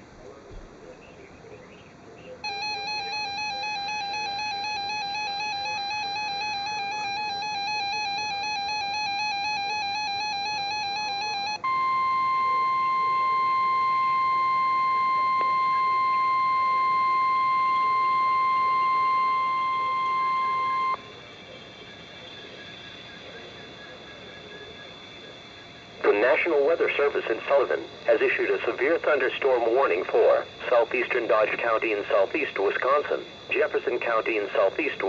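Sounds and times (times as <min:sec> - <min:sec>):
warbling alert siren: 0:02.4 - 0:34.8
steady warning alarm tone: 0:02.4 - 0:35.0.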